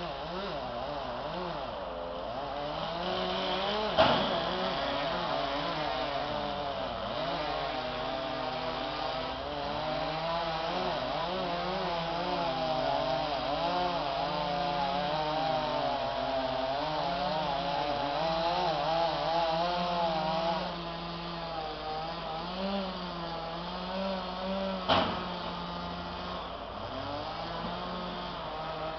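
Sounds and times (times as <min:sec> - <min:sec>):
chainsaw engine running: 0:00.0 - 0:28.9.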